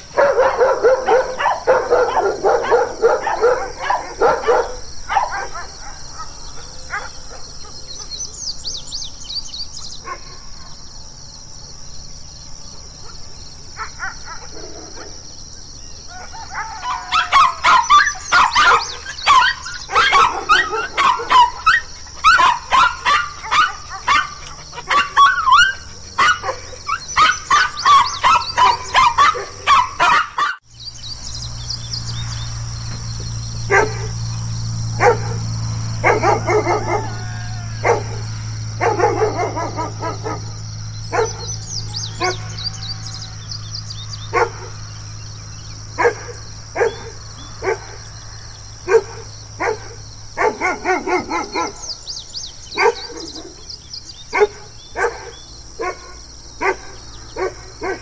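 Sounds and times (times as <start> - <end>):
dogs barking: 0.0 - 8.3, 9.9 - 10.8, 12.8 - 15.4, 16.0 - 30.6, 32.9 - 43.0, 44.0 - 58.0.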